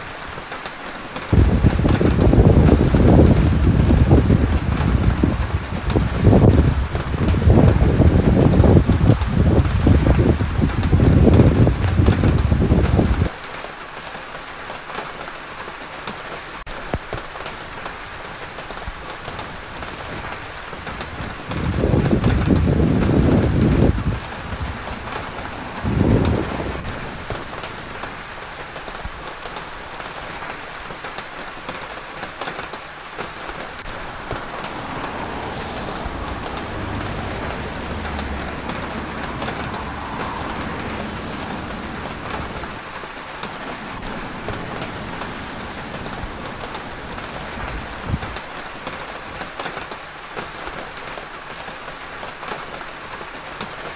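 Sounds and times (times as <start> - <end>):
rain falling on wet street: 0.0 - 53.9
vehicle passing on wet road: 0.0 - 53.9.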